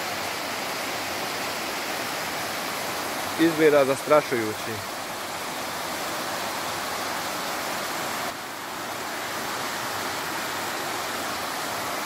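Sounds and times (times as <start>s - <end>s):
river floodwater rushing: 0.0s - 12.0s.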